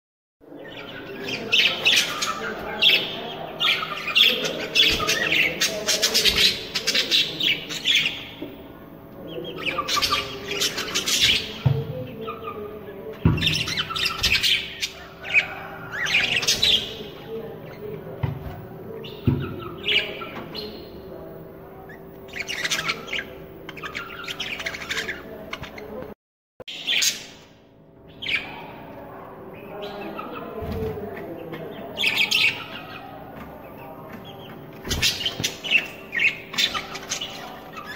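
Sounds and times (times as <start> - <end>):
budgerigars chirping and squawking: 0.5 - 26.1, 26.7 - 28.8, 29.5 - 37.9.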